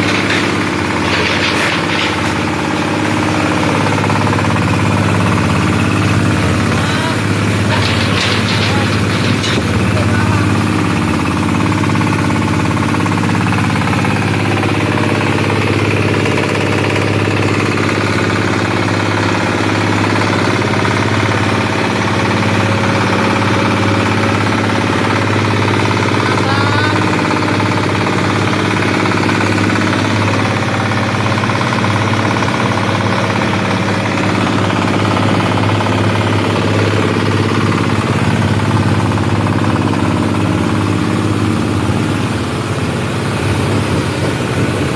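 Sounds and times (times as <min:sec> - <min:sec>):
waste shredding machine humming: 0:00.0 - 0:44.9.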